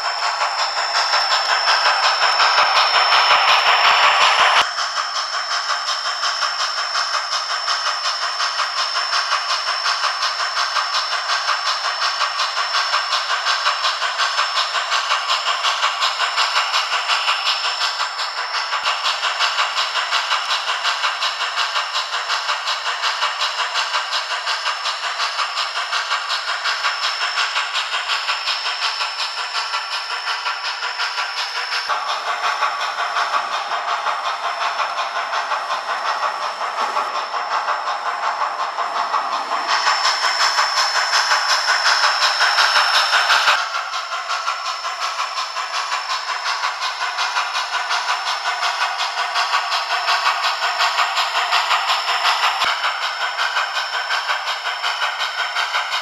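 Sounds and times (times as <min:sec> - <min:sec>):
steam locomotive exhaust chuffs: 0:00.0 - 0:56.0.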